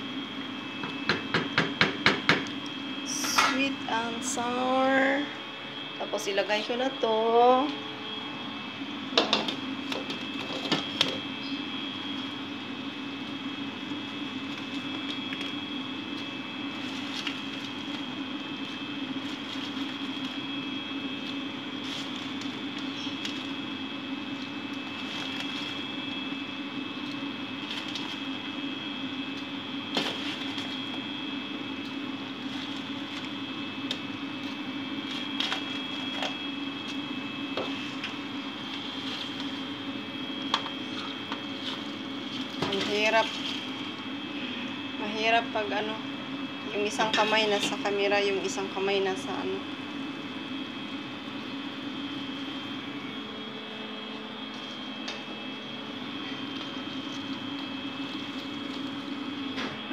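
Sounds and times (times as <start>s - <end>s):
mechanical hum with high whine: 0.0s - 59.9s.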